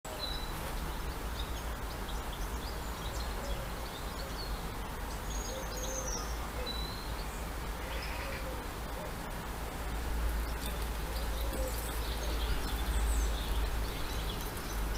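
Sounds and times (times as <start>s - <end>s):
small birds chirping: 0.1s - 14.9s.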